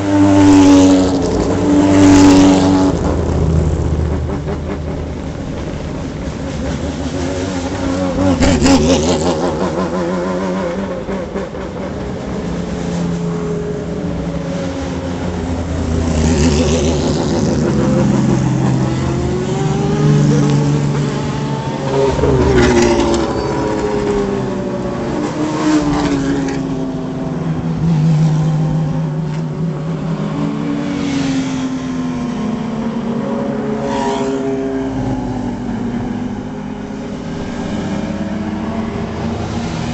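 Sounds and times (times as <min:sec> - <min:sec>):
race cars passing: 0:00.0 - 0:39.9.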